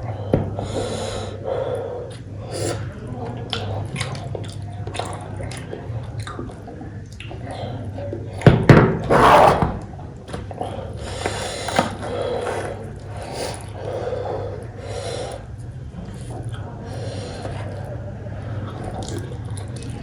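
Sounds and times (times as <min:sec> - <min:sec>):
eating with wet mouth noises: 0:00.0 - 0:20.0
steady low hum: 0:00.0 - 0:20.0.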